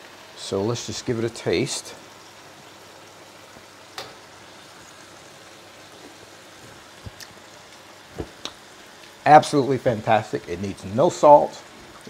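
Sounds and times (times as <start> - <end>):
sauce boiling in a wok: 0.0 - 12.0.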